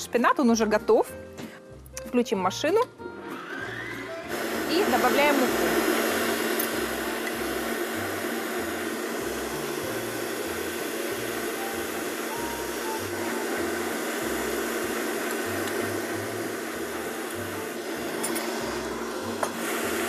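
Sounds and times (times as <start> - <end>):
electric stand mixer beating batter: 3.1 - 20.0.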